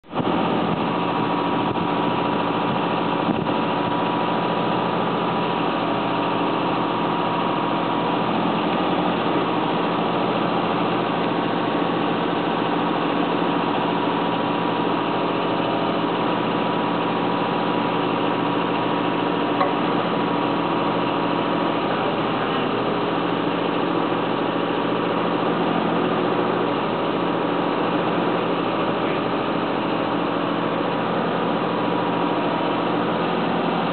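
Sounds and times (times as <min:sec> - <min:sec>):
excavator engine running: 0:00.0 - 0:33.9
thin steady whine: 0:00.1 - 0:33.9.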